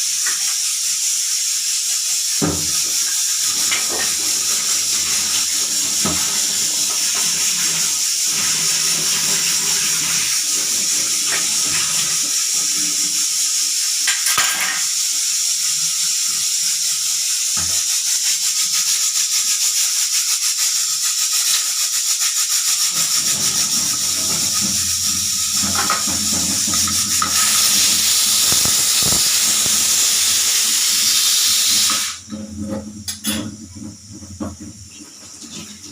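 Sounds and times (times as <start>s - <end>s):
pressure cooker whistling: 0.0s - 19.3s, 20.5s - 32.3s.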